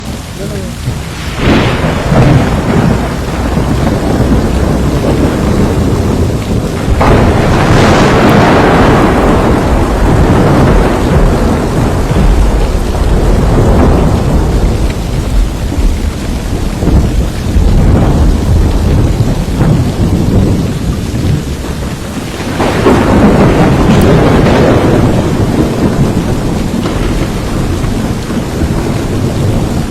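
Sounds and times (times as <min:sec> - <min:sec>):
heavy rain: 0:00.0 - 0:29.9
thunder rolling: 0:00.0 - 0:29.9.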